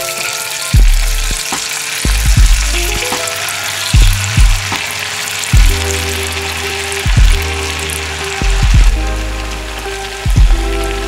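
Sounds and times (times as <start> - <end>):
food sizzling in hot oil: 0.0 - 11.0
background music with bass beat: 0.7 - 4.9, 5.5 - 11.0.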